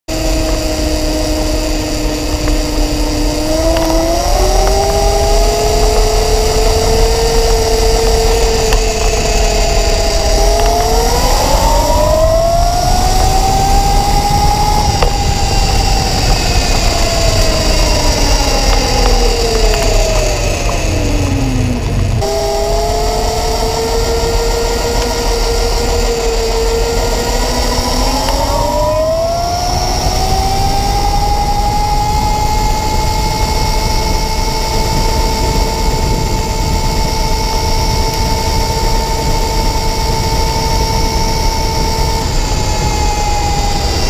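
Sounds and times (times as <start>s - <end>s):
electric scooter motor whining: 0.0s - 44.0s
tyres rumbling on paving: 0.0s - 44.0s.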